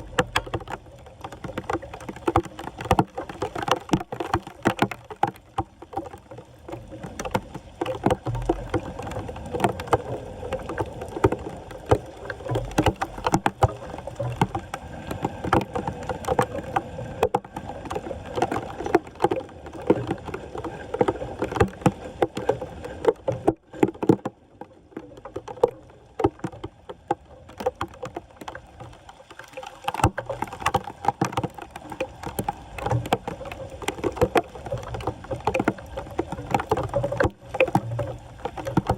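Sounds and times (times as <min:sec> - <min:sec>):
floodwater splashing: 0:00.0 - 0:38.9.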